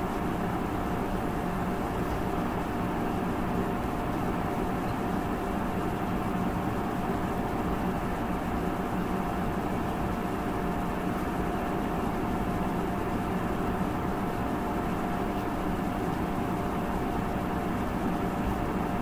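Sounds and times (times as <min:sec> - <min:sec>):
steady hum and hiss: 0:00.0 - 0:19.0.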